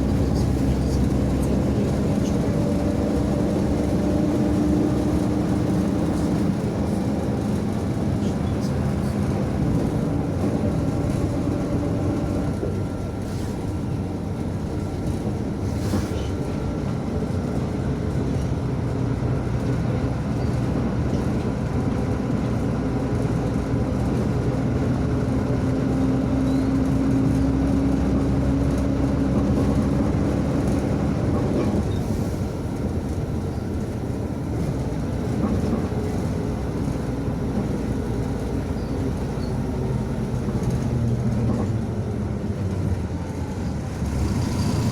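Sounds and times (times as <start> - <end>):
bus engine hum: 0.0 - 44.9
rattling road noise: 0.0 - 44.9.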